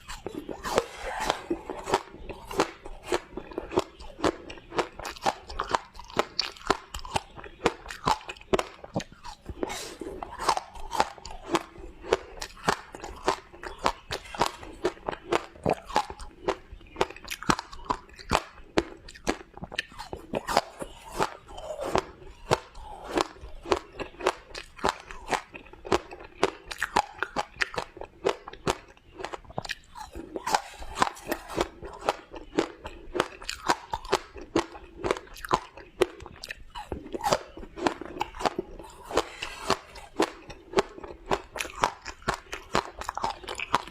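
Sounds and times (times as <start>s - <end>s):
chewing crunchy ice: 0.0s - 43.9s.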